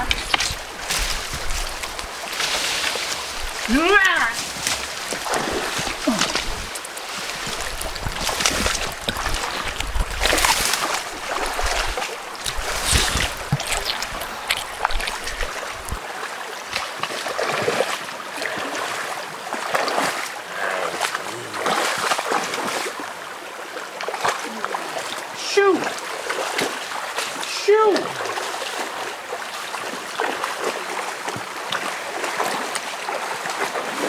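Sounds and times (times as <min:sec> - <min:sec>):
water splashing in a river: 0:00.0 - 0:34.0.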